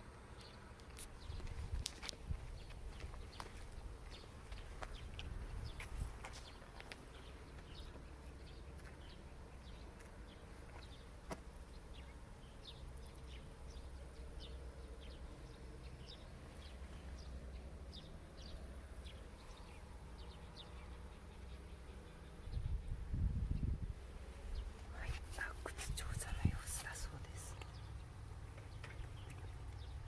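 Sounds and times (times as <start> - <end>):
small birds chirping: 0.4 - 30.0.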